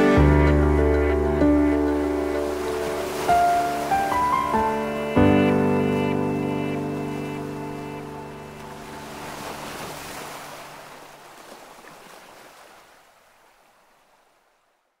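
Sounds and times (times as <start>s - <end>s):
ocean waves washing: 0.0s - 14.8s.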